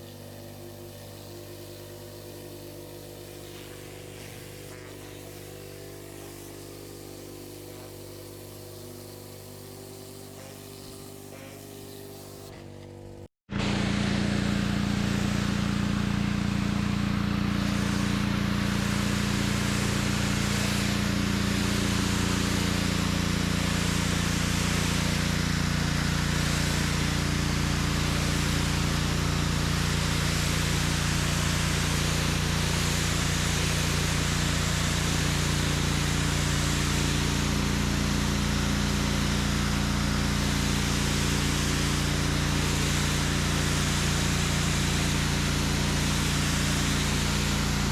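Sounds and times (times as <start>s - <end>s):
high-pressure water spray hiss: 0.0s - 12.8s, 14.2s - 47.9s
pressure washer engine drone: 0.0s - 47.9s.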